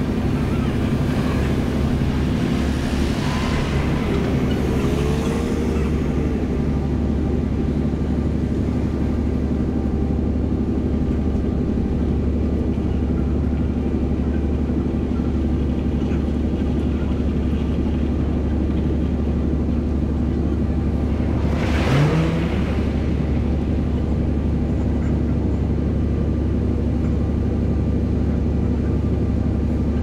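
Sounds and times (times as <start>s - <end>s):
ferry engines droning: 0.0s - 30.0s.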